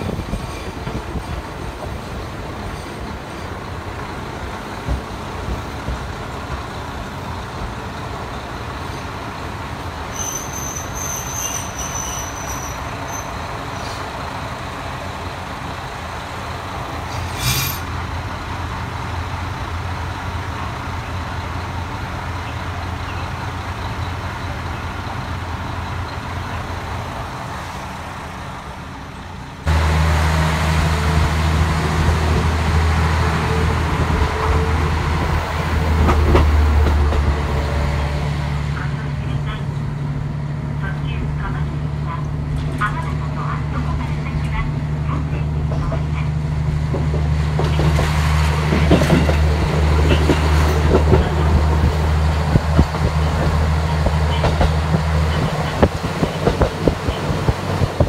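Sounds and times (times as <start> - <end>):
diesel railcar engine idling: 0.0 - 58.0.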